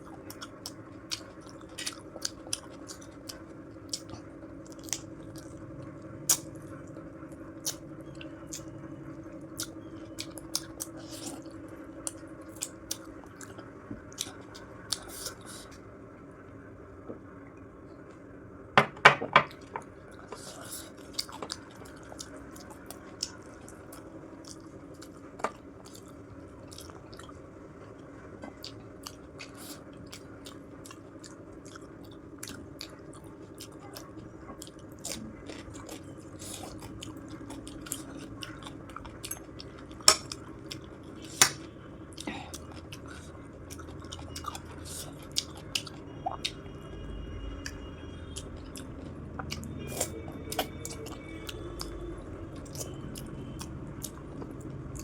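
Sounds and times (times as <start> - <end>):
person chewing food: 0.0 - 5.7, 6.3 - 8.7, 9.4 - 15.8, 19.4 - 27.5, 28.5 - 46.7, 47.6 - 55.0.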